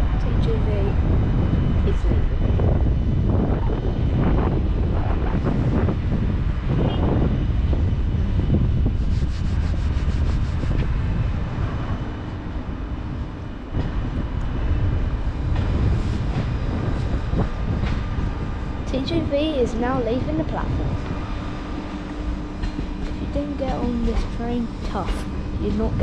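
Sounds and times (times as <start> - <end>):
high-speed train rumbling: 0.0 - 26.0.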